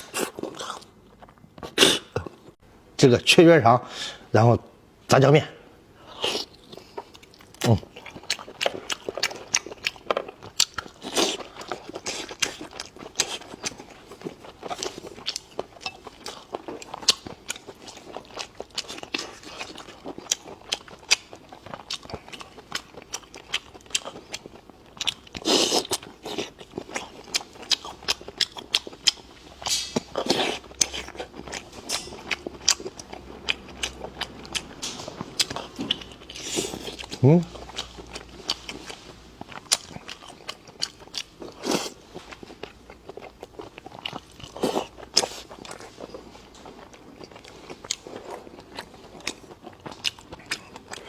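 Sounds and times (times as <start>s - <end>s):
person chewing and crunching food: 0.0s - 2.6s, 6.0s - 51.0s.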